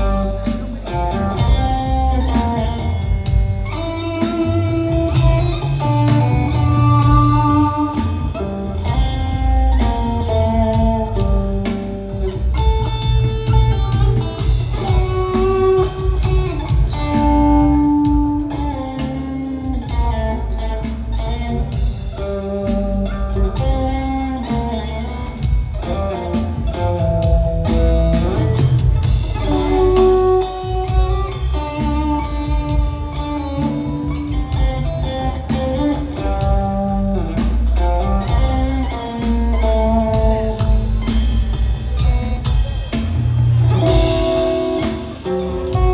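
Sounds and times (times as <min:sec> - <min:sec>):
bass guitar: 0:00.0 - 0:45.9
drums: 0:00.0 - 0:45.9
electric guitar lead: 0:00.0 - 0:45.9.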